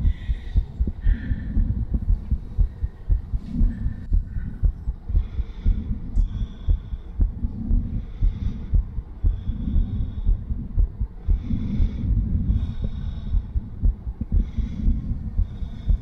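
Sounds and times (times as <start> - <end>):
fast heartbeat: 0.0 - 16.0
whooshing heart murmur: 0.0 - 16.0.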